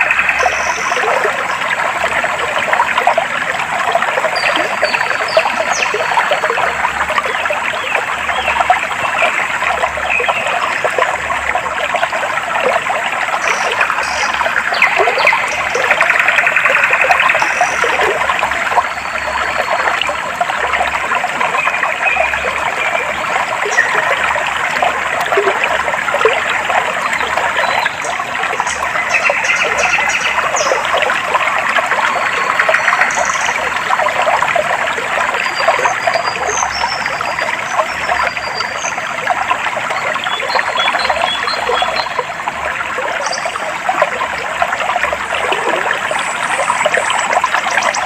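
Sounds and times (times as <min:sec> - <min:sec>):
water babbling over stones: 0:00.0 - 0:48.0.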